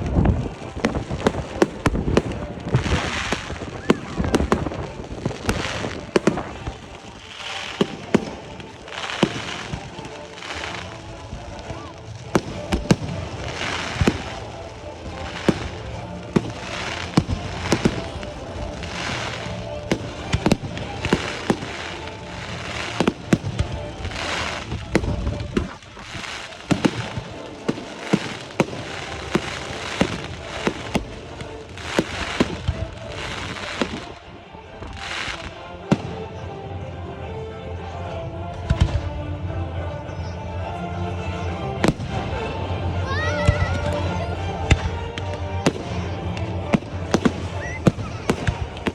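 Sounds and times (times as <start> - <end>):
fireworks bangs: 0.0 - 36.4, 38.6 - 39.2, 41.8 - 48.9
hissing crackle of fireworks: 0.0 - 37.0, 38.6 - 48.9
music: 0.0 - 48.9.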